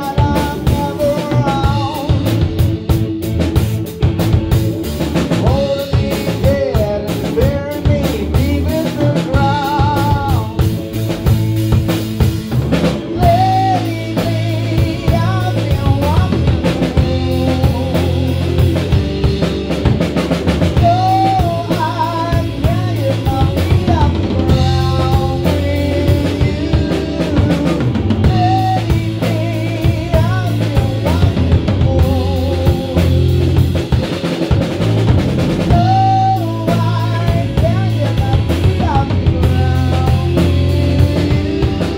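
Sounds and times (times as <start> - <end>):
man singing: 0.0 - 3.4, 4.1 - 41.9
drum kit: 0.0 - 41.9
electric guitars: 0.0 - 41.9.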